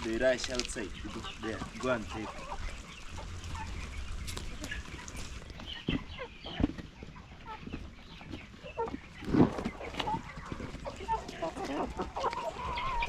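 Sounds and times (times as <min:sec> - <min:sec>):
young chickens peeping and clucking: 0:00.0 - 0:13.0.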